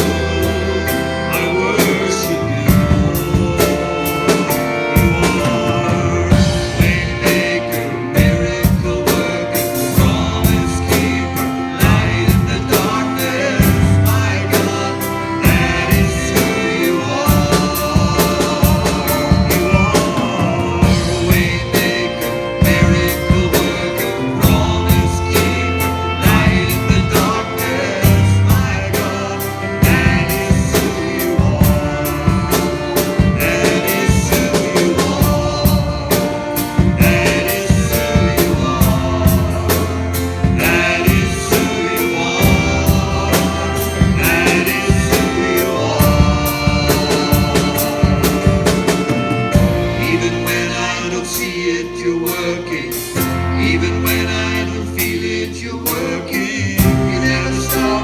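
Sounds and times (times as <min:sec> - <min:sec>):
drum kit beat: 0:00.0 - 0:55.2, 0:55.8 - 0:58.0
guitar: 0:00.0 - 0:58.0
person singing: 0:00.0 - 0:58.0.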